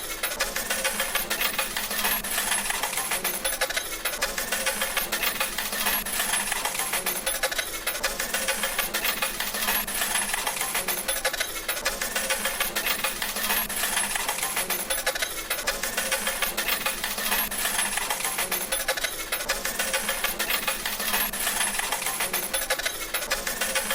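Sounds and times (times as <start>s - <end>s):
coins clattering from slot machine: 0.2s - 23.9s.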